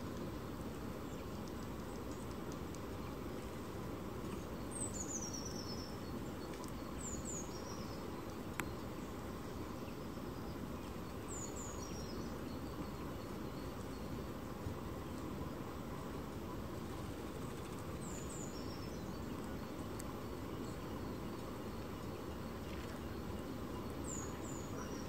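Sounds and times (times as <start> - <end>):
outdoor hiss and rumble: 0.0 - 25.0
songbirds calling: 0.4 - 25.0.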